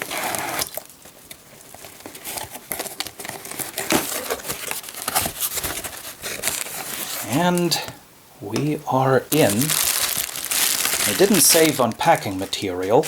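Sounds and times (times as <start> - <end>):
cardboard crinkling and scraping: 0.0 - 7.6, 9.3 - 13.0.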